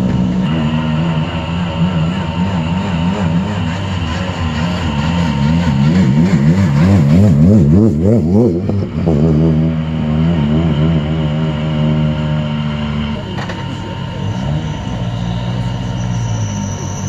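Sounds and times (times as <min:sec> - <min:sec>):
car engine revving in waves: 0:00.0 - 0:16.6.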